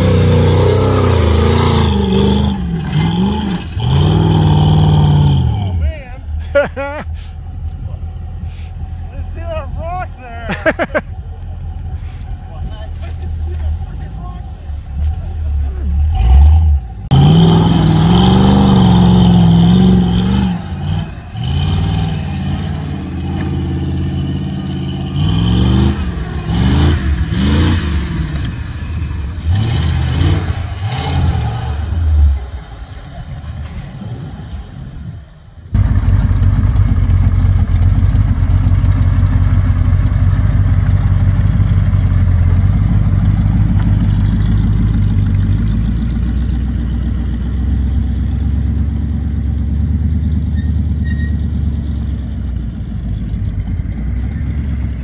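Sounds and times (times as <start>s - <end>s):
buggy engine running steadily: 0.0s - 55.0s
buggy engines revving: 0.0s - 55.0s.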